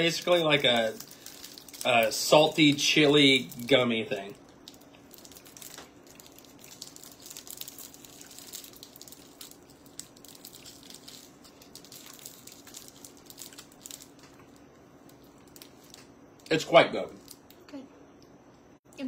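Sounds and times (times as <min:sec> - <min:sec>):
plastic candy wrapper crinkling: 0:00.0 - 0:17.6
faint steady hum: 0:00.0 - 0:19.0.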